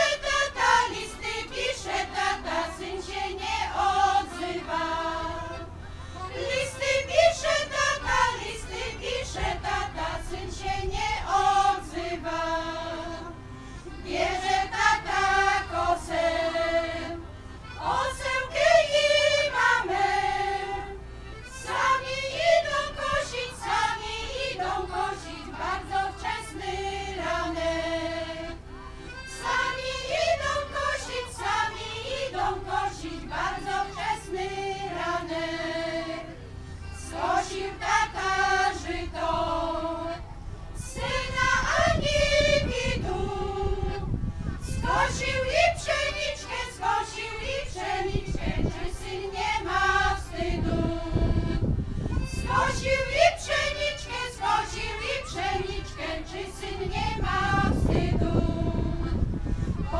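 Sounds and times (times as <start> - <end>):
accordion: 0.0 - 59.9
women's choir singing: 0.0 - 59.9.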